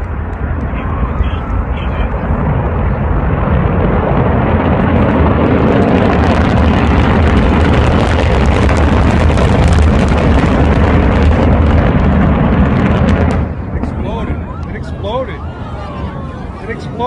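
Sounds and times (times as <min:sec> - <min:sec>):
distant rocket launch rumble: 0:00.0 - 0:17.0.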